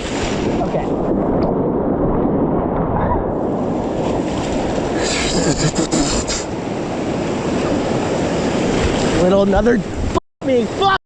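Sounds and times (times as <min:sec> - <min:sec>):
water splashing: 0:00.0 - 0:09.9.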